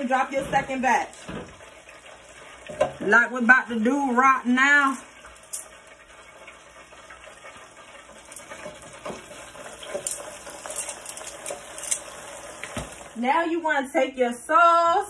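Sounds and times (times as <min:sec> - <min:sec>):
chicken wings deep-frying in oil: 0:00.0 - 0:13.6.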